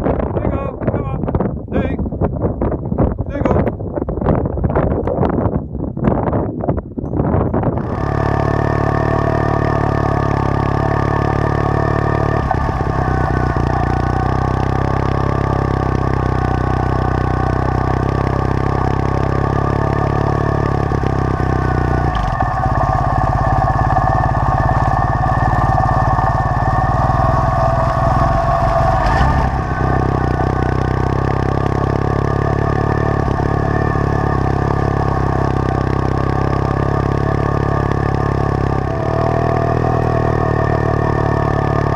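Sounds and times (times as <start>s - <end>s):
motorcycle engine running: 0.0s - 1.4s, 7.0s - 41.9s.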